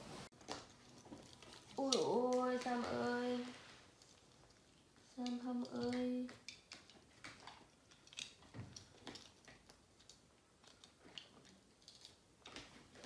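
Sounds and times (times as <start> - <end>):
plastic toys clicking and tapping: 0.4 - 3.1, 4.0 - 13.0.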